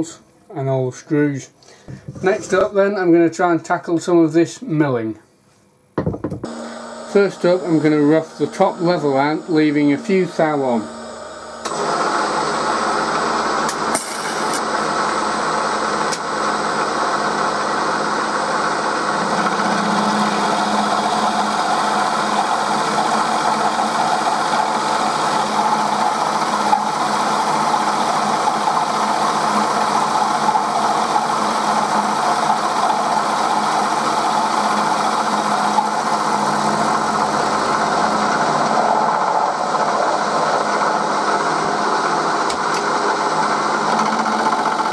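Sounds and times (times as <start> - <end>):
milling machine cutting metal: 6.5 - 44.9.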